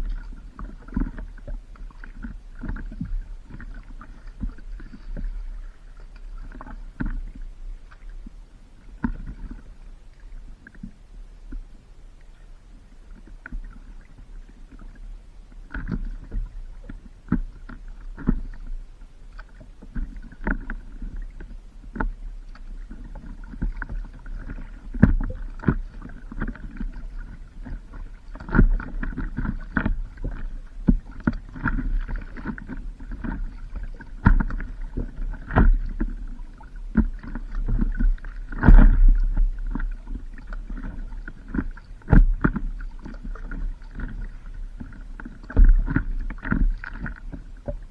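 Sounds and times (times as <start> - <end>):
paddle splashing water: 0.0 - 47.9.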